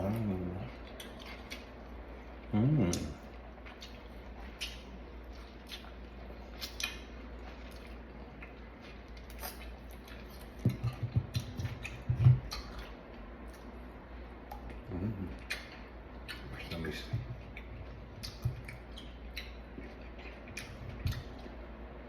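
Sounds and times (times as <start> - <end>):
crunching and chewing raw fruit: 0.0 - 22.0.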